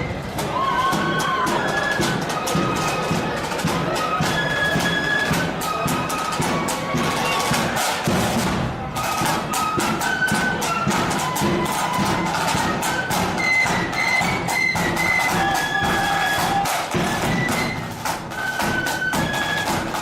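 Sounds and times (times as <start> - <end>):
flute melody: 0.0 - 20.0
rapid drumming: 0.0 - 20.0.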